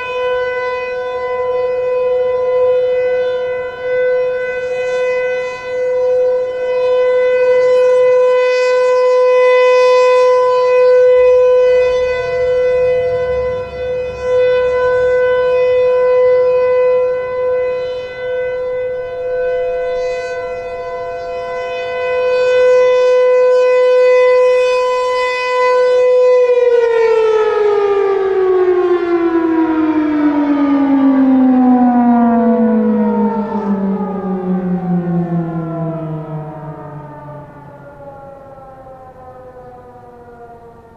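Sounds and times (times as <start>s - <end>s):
outdoor warning siren: 0.0s - 40.9s.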